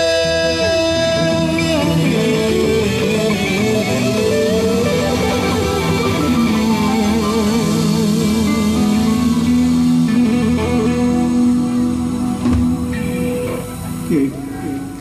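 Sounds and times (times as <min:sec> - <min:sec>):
drums: 0:00.0 - 0:15.0
electric guitar solo: 0:00.0 - 0:15.0
keyboards: 0:00.0 - 0:15.0.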